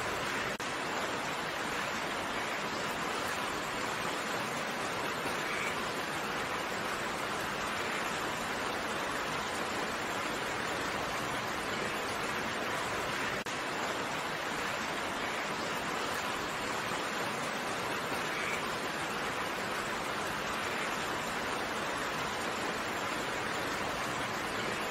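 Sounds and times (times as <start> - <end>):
steady rain: 0.0 - 24.9.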